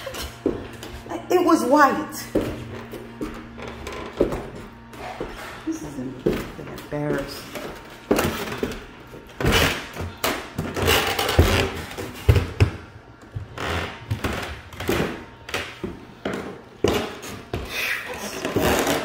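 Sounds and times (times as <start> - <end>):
footsteps going down stairs: 0.0 - 19.0.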